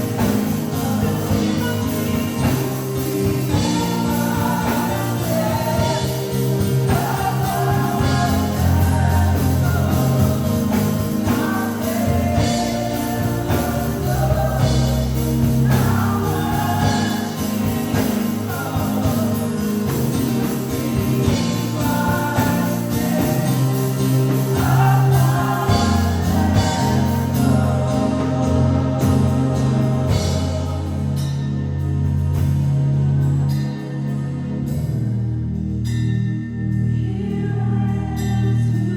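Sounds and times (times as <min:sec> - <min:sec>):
voices singing: 0:00.0 - 0:31.7
tambourine: 0:00.0 - 0:32.8
bass: 0:00.0 - 0:38.9
keyboard chords: 0:00.0 - 0:38.9.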